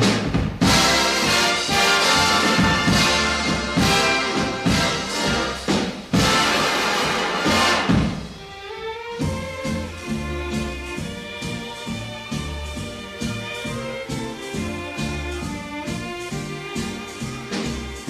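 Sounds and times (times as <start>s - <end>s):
big-band music with brass: 0.0s - 8.4s, 9.1s - 18.0s.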